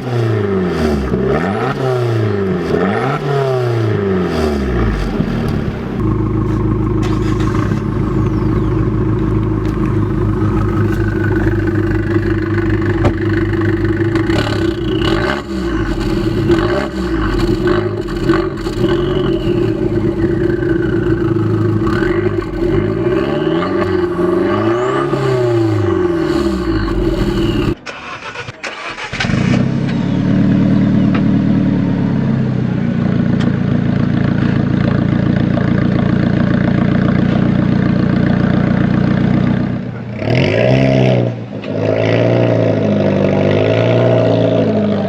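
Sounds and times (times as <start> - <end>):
second engine running: 0.0 - 40.8
car engine revving: 0.0 - 45.0.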